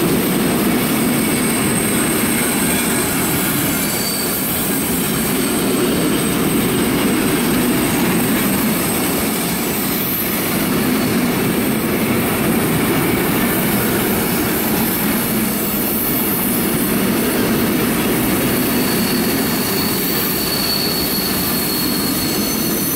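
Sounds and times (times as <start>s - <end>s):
train wheels rumbling on rail: 0.0s - 22.9s
faint wheel squeal: 1.0s - 11.6s, 13.6s - 22.9s.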